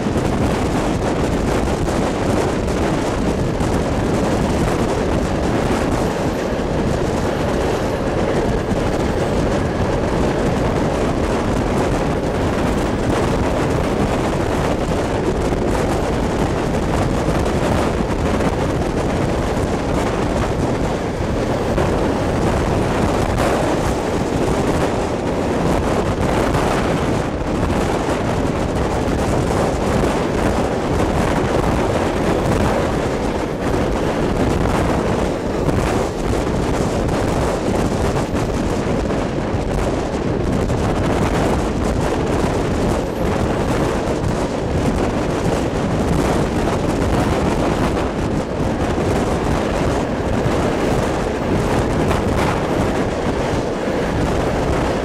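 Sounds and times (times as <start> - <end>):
train running at speed: 0.0 - 55.0
wind rushing on microphone: 0.0 - 55.0.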